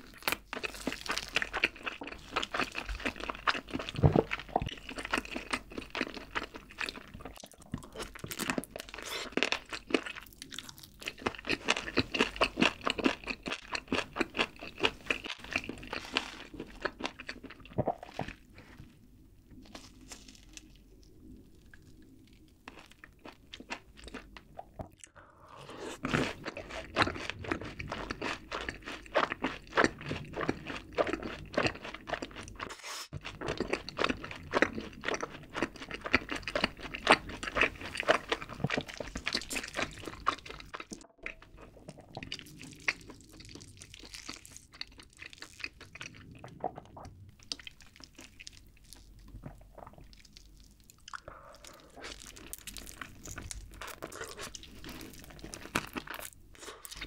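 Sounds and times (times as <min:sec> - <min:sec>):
crunchy food chewing: 0:00.0 - 0:57.0.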